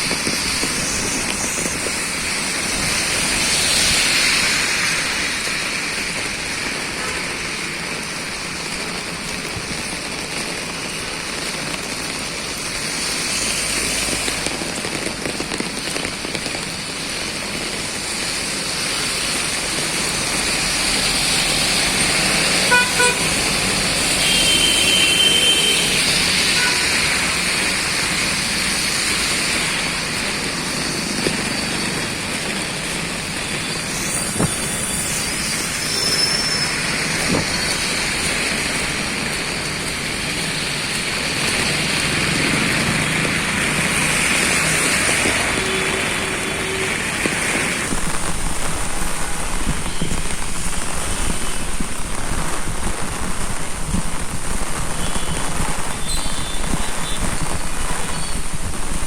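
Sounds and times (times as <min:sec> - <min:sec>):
passing road traffic: 0:00.0 - 0:59.0
rain hissing: 0:00.0 - 0:59.0.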